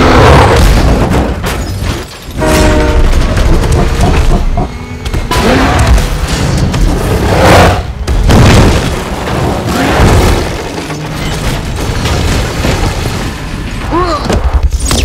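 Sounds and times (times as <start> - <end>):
debris crashing: 0.0 - 14.0.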